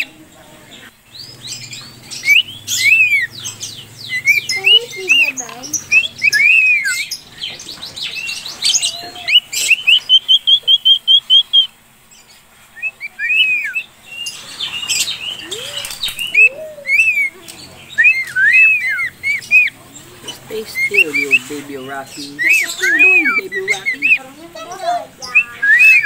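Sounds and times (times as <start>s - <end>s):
cockatiels chirping: 0.0s - 11.8s, 12.8s - 26.0s
low sliding bird calls: 0.8s - 11.8s, 12.4s - 26.0s.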